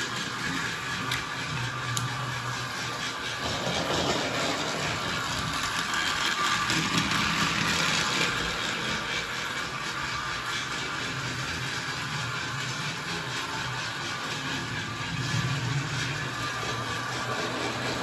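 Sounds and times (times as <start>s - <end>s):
toy train motor and gears whirring: 0.0s - 18.0s.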